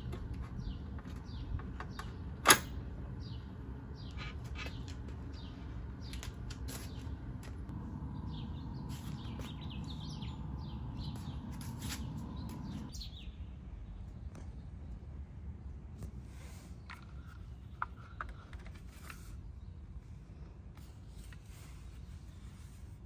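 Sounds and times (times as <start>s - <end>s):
small birds chirping: 0.0s - 15.2s, 16.0s - 23.0s
outdoor background noise: 0.0s - 23.0s.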